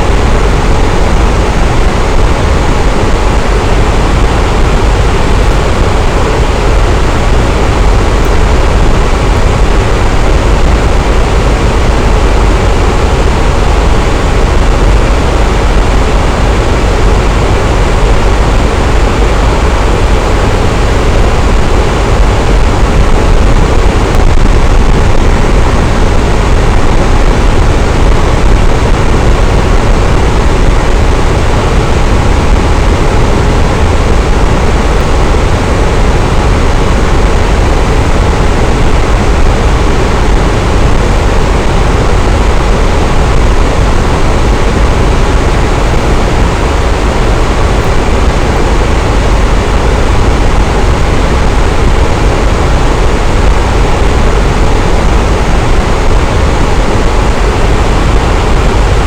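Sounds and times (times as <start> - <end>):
electric fan whooshing: 0.0 - 59.0.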